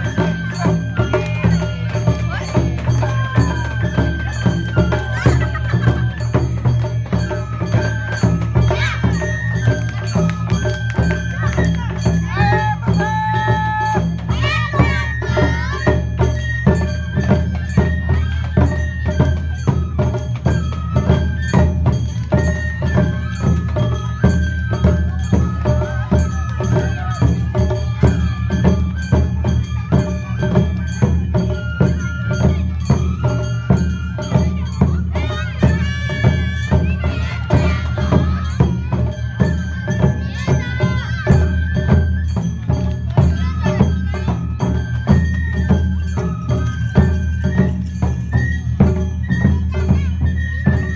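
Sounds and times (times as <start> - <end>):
clanging metal percussion: 0.0 - 50.9
drums beating: 0.0 - 50.9
high flute-like melody: 0.0 - 50.9.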